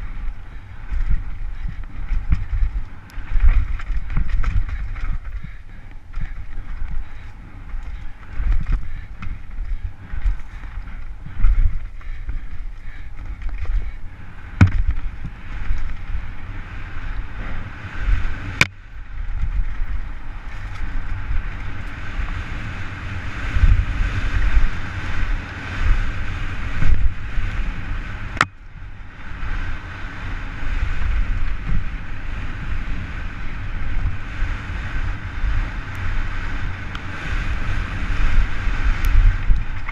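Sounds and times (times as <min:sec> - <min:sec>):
tyres rumbling on dirt trail: 0:00.0 - 0:39.9
wind buffeting a camera: 0:00.0 - 0:39.9.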